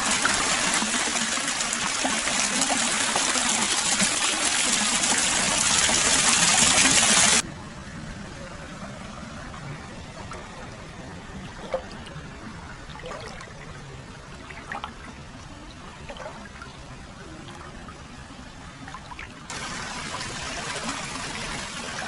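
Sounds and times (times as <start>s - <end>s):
water splashes: 0.0s - 7.4s, 9.2s - 22.0s.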